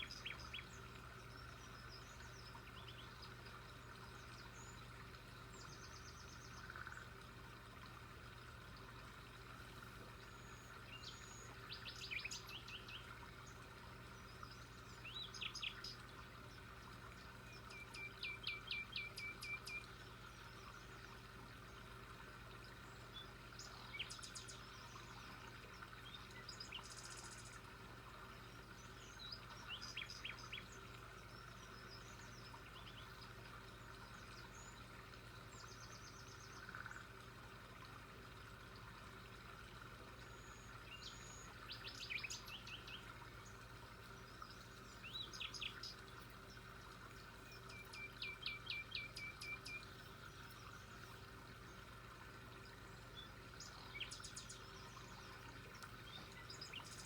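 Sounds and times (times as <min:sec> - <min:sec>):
wild birds chirping: 0:00.0 - 0:37.6, 0:38.8 - 0:57.0
faint steady hum: 0:00.0 - 0:57.0.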